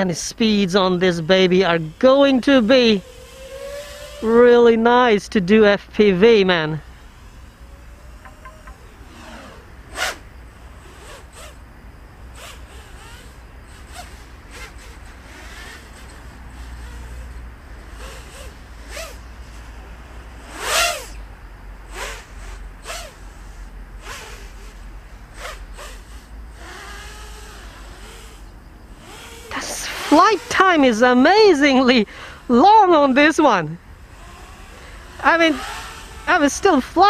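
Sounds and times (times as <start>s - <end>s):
quadcopter propeller whooshes: 0.0s - 37.0s.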